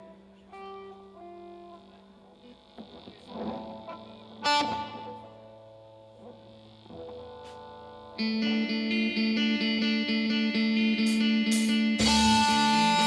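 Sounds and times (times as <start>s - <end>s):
electric guitar ringing notes: 0.0s - 13.0s.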